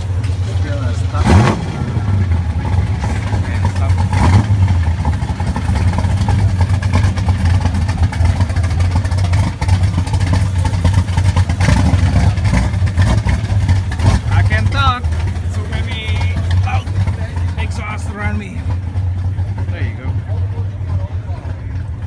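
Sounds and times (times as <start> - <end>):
loud car exhausts rumbling: 0.0 - 22.0.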